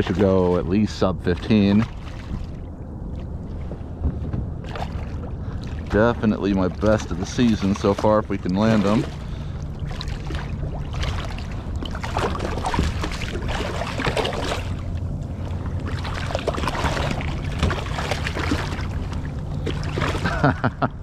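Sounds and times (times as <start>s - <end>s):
water splashing at kayak side: 0.0s - 20.9s.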